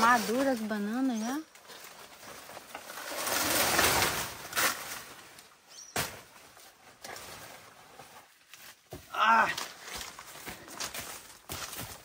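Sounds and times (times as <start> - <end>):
banana leaves rustling and crackling: 0.0 - 12.0
rustling through undergrowth: 0.0 - 12.0.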